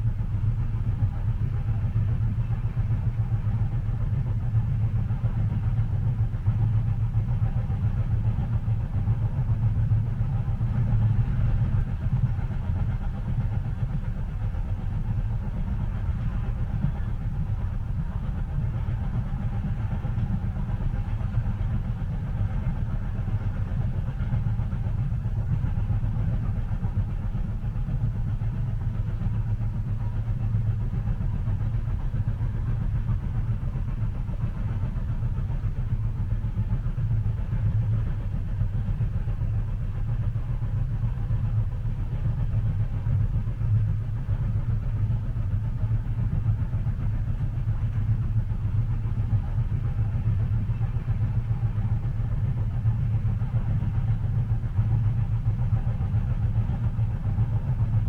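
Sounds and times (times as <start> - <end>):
train rumbling inside cabin: 0.0 - 58.0.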